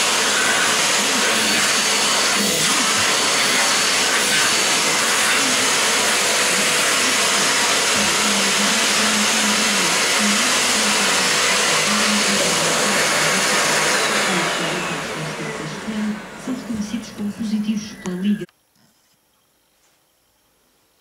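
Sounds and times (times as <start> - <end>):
vacuum cleaner running: 0.0 - 18.5
vacuum motor spinning down: 0.0 - 18.5.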